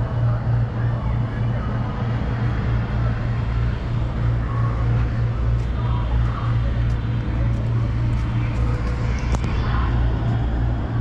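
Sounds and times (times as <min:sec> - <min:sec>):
diesel engine drone: 0:00.0 - 0:11.0.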